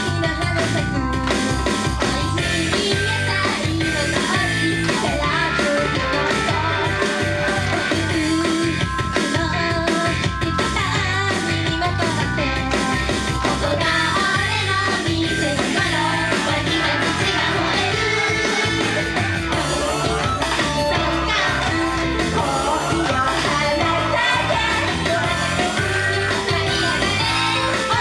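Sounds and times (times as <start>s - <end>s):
pop-rock song with female vocals: 0.0s - 28.0s.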